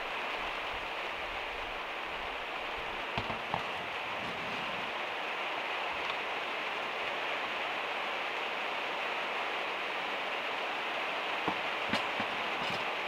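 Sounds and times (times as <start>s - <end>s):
rain on a metal roof: 0.0s - 13.0s.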